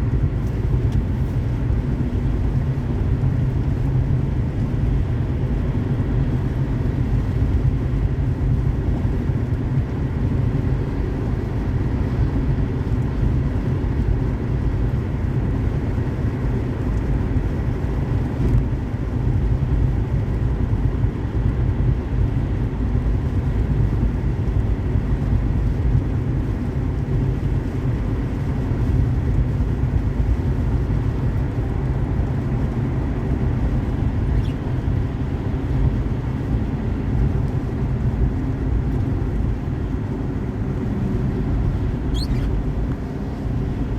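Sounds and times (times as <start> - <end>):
car engine drone: 0.0 - 43.9
tyre and road noise: 0.0 - 43.9.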